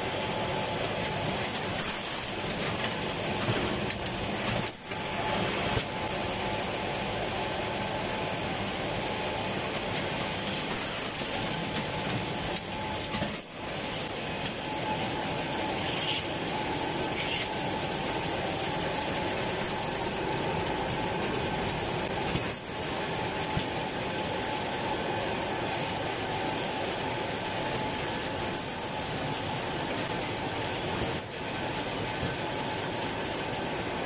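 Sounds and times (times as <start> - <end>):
packing machine hum and clatter: 0.0 - 34.0.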